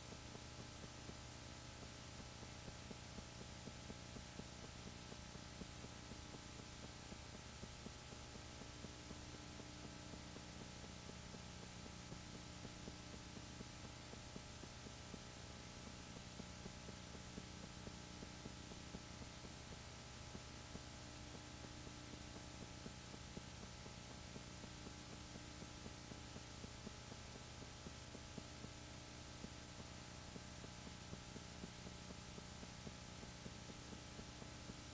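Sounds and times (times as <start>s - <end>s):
faint electrical hum: 0.0s - 34.9s.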